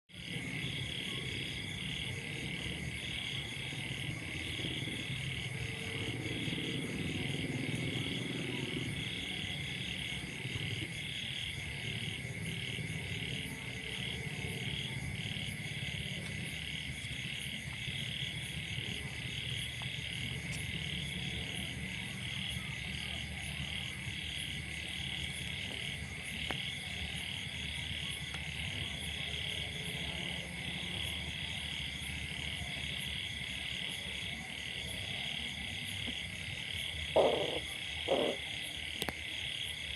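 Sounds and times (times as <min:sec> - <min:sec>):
frogs croaking: 0:00.1 - 0:39.9
insects trilling: 0:00.2 - 0:39.9.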